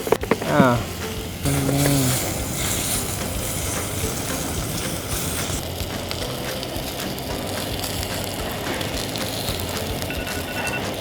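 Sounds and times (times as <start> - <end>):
meat sizzling in hot oil: 0.0 - 11.0
oil popping and spitting: 0.0 - 11.0.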